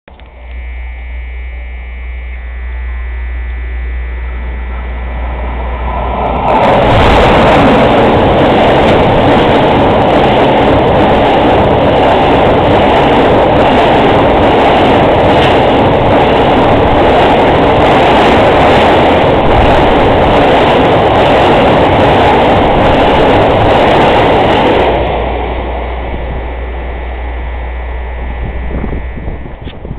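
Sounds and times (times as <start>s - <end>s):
freight train passing: 2.4s - 29.6s.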